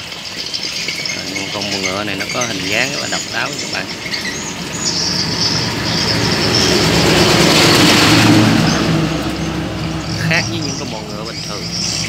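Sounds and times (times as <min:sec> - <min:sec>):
motor vehicle passing by: 0:00.0 - 0:12.0.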